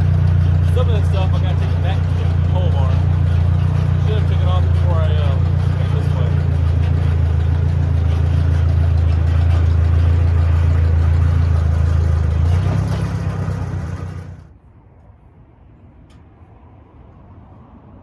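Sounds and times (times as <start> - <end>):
vehicle engine humming: 0.0 - 14.7.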